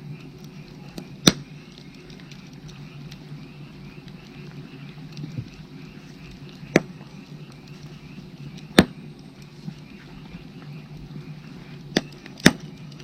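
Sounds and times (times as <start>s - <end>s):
firewood burning with pops: 0.0s - 13.0s
frogs croaking: 0.0s - 13.0s.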